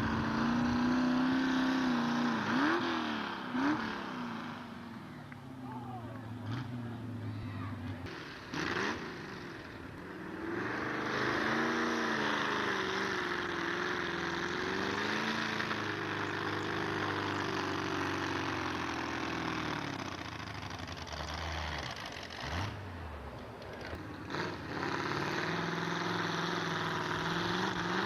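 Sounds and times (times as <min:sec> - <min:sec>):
truck engine at high revs: 0:00.0 - 0:28.0.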